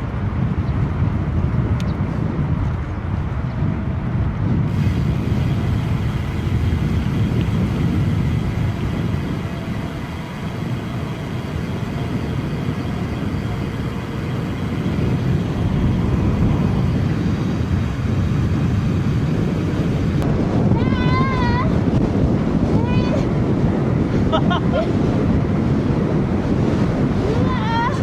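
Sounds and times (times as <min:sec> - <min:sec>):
bike tyre noise: 0:00.0 - 0:28.0
wind buffeting microphone: 0:00.0 - 0:28.0.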